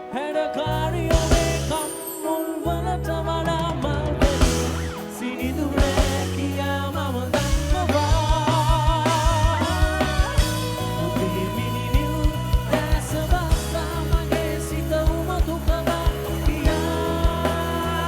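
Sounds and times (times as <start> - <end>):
person singing: 0.0 - 18.0
bass notes: 0.7 - 1.8, 2.7 - 18.0
steady drum beat: 1.0 - 1.8, 3.4 - 18.0.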